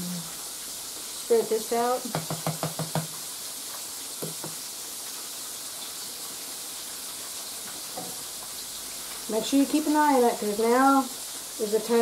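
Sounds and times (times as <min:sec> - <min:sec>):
cutlets sizzling in hot oil: 0:00.0 - 0:12.0.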